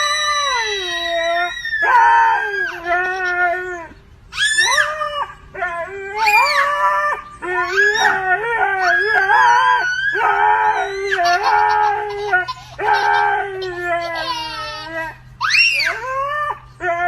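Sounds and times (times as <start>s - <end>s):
dog howling: 0.0s - 17.0s.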